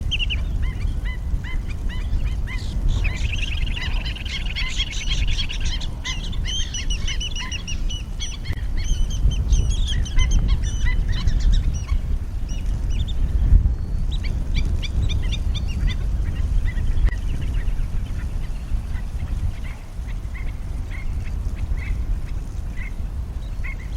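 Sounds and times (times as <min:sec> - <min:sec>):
shorebirds calling: 0:00.0 - 0:23.9
steady low rumble: 0:00.0 - 0:23.9.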